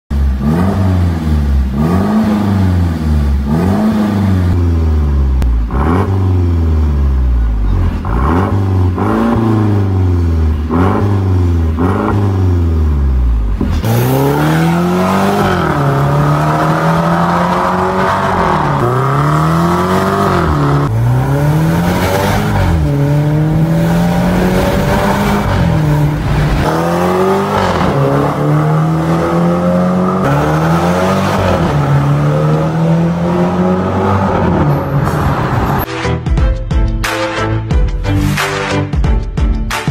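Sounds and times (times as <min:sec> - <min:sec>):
car engine revving: 0:00.1 - 0:35.9
car accelerating hard: 0:00.2 - 0:35.9.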